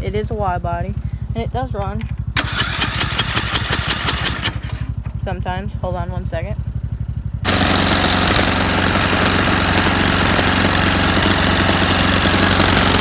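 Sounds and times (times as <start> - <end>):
riding lawnmower engine running: 0.0 - 13.0.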